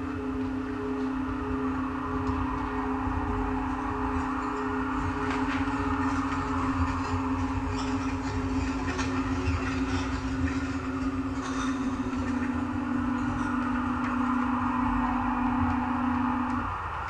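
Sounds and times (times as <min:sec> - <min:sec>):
droning hum: 0:00.0 - 0:17.0
low rumble: 0:00.0 - 0:17.0.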